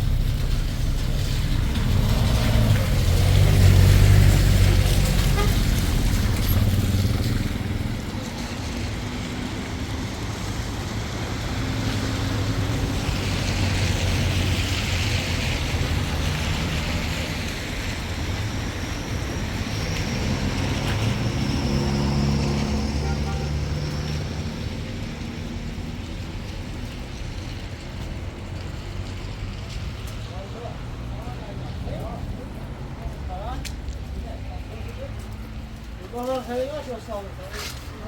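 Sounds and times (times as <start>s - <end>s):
road noise: 0.0s - 38.0s
vehicle engine rumbling: 0.0s - 38.0s.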